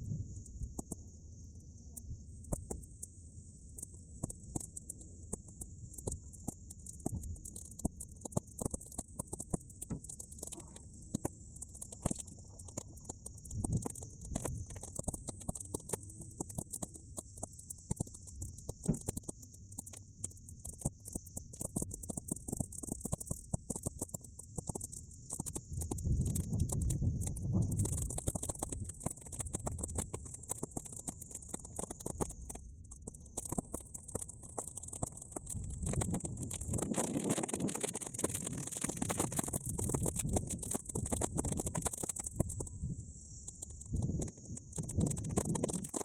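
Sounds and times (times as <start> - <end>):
bonfire crackling and popping: 3.8 - 42.7, 43.5 - 46.0.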